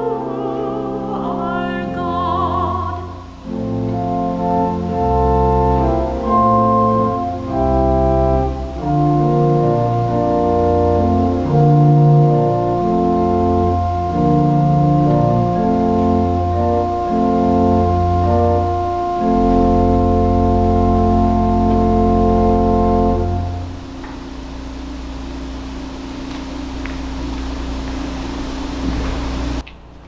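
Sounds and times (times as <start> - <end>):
organ playing chords: 0.0 - 29.6.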